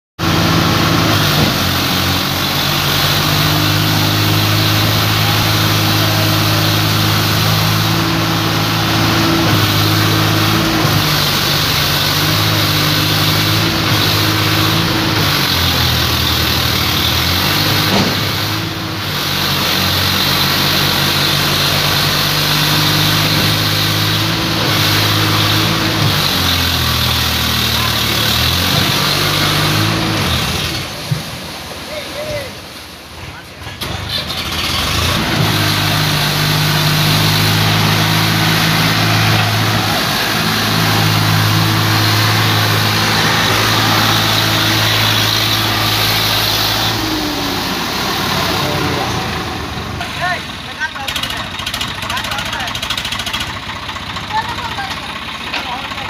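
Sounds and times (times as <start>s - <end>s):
tractor diesel engine running: 0.2s - 31.9s, 32.6s - 56.0s.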